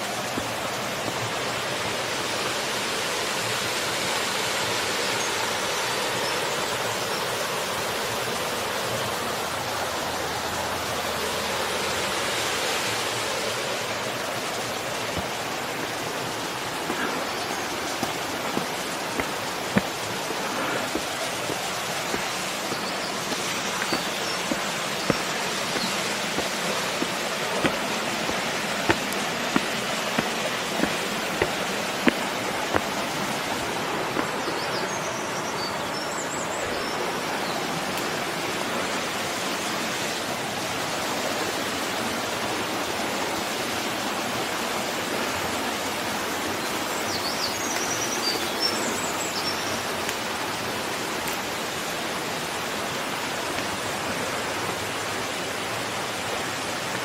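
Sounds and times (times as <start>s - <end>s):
flowing mountain water: 0.0s - 57.0s.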